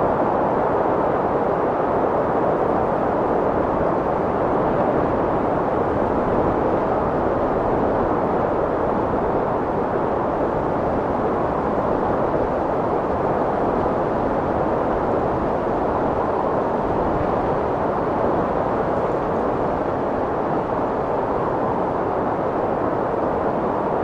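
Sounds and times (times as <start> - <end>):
strong wind blowing: 0.0 - 24.0.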